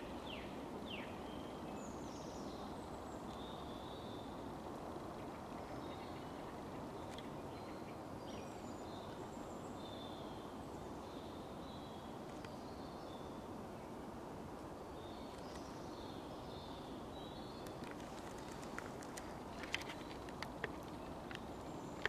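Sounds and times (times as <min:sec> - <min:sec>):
woodland background hiss: 0:00.0 - 0:22.0.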